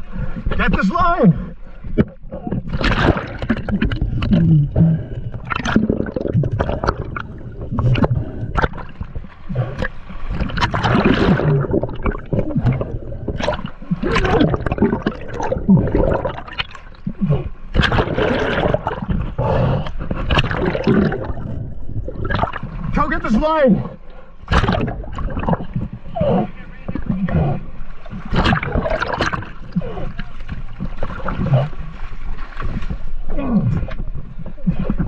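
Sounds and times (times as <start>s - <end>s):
water gurgling and bubbling: 0.0s - 35.0s.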